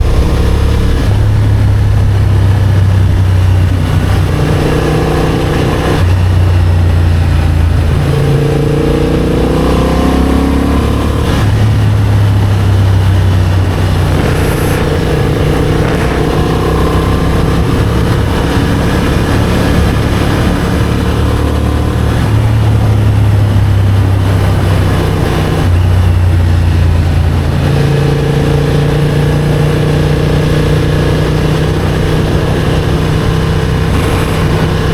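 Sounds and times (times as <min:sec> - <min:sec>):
steady rush of noise: 0:00.0 - 0:29.4, 0:30.4 - 0:34.9
motorcycle engine revving: 0:00.0 - 0:34.9.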